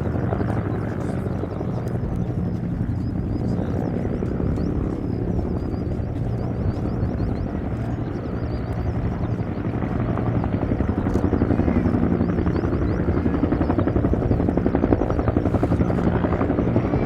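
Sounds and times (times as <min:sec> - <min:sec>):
helicopter rotor blades beating: 0:00.0 - 0:17.0.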